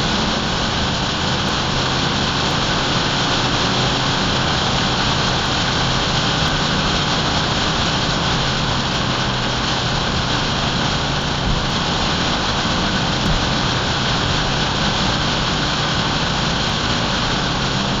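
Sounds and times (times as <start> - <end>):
vehicle running noise: 0.0 - 18.0.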